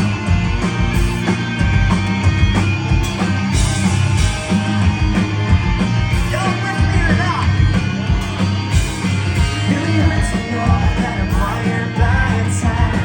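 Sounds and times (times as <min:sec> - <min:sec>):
live pop-punk band playing: 0:00.0 - 0:13.0.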